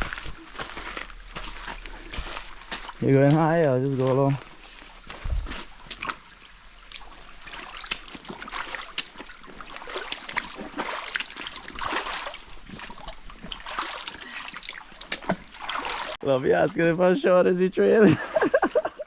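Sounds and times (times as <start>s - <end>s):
footsteps splashing through stream: 0.0s - 16.2s.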